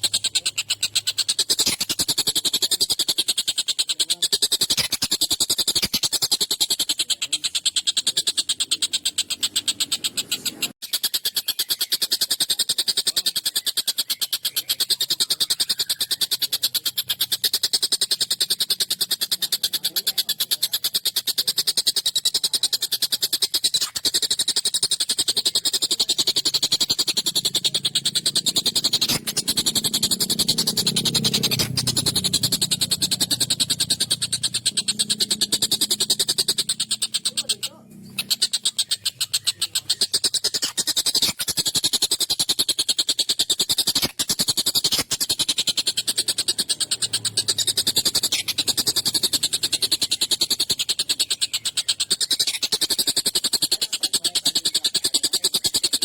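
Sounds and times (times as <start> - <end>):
kingfisher harsh chatter: 0.0 - 56.0.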